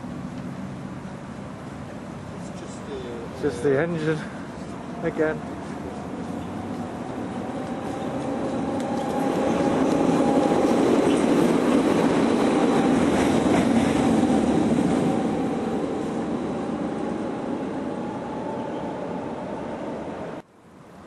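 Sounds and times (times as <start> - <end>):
electric locomotive passing: 0.0 - 20.4.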